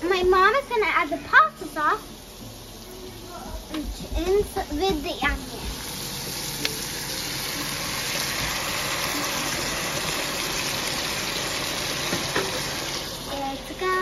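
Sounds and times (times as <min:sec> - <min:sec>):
onions and sauce sizzling in a pan: 0:00.0 - 0:14.0.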